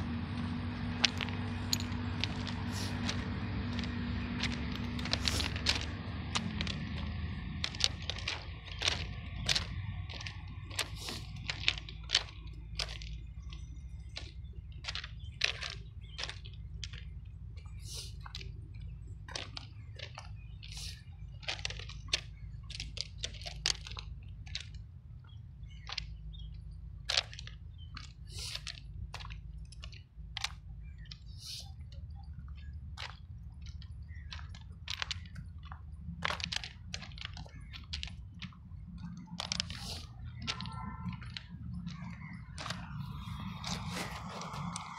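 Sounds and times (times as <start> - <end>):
footsteps crunching on gravel: 0.0 - 44.9
low steady rumble: 0.0 - 44.9.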